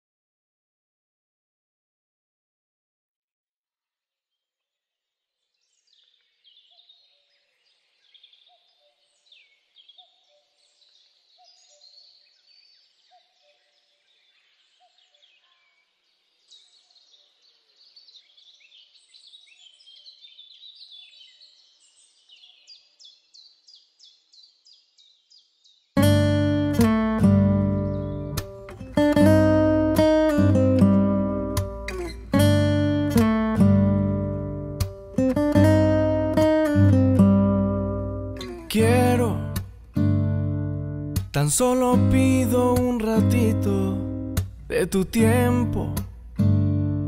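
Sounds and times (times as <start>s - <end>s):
woodland birdsong: 4.2s - 47.0s.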